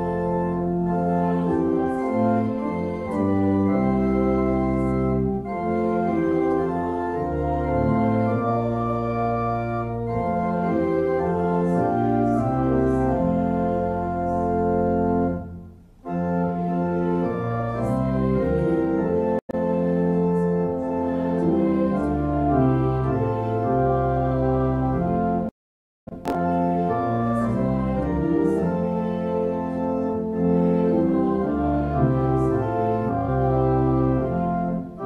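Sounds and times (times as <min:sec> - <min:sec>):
pipe organ playing a hymn: 0:00.0 - 0:25.5, 0:26.2 - 0:35.0.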